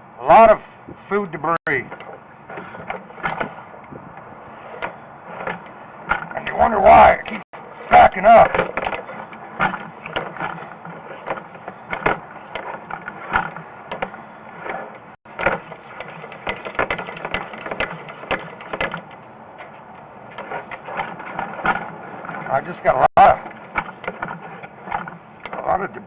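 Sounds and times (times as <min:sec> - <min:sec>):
steady mechanical noise: 0:00.0 - 0:26.0
cable clicking and rattling: 0:01.7 - 0:25.9.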